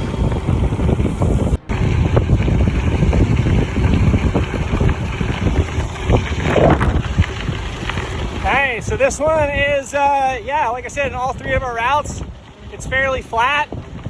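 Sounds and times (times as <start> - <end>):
tyres rumbling on gravel: 0.0 - 14.0
wind buffeting microphone: 0.0 - 14.0.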